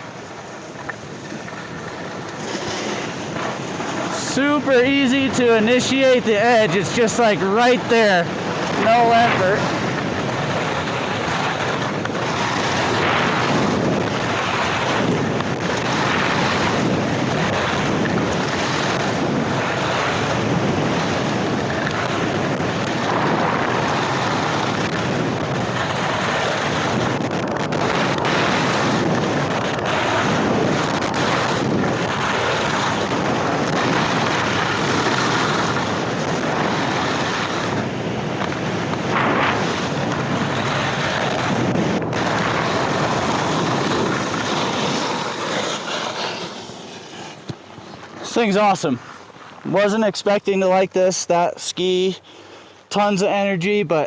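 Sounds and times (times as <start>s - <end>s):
skis carving on snow: 0.0s - 52.2s
wind rushing over microphone: 2.0s - 47.4s.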